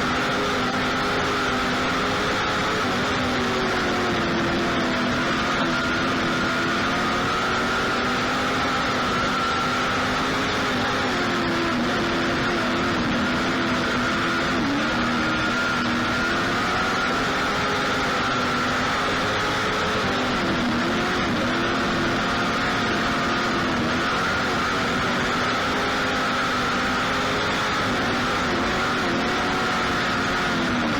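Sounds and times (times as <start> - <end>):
racing engine at high revs: 0.0 - 30.9.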